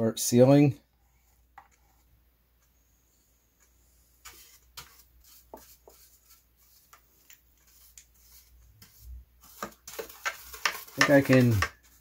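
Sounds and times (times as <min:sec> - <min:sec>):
paintbrush strokes on wood: 0:01.0 - 0:09.8, 0:10.6 - 0:12.0.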